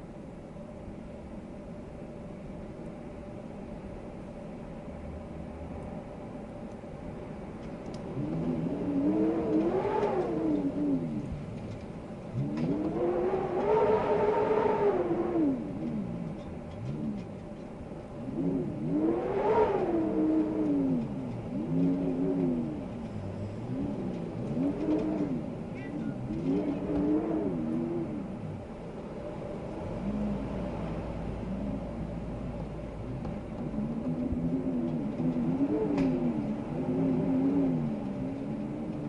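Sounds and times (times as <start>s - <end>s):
wind howling in gusts: 7.2s - 39.0s.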